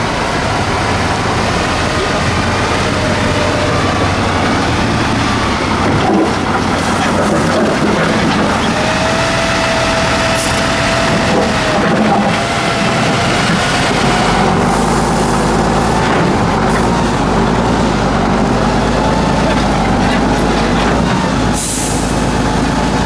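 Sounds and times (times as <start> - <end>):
truck diesel engine running hard: 0.0 - 23.0.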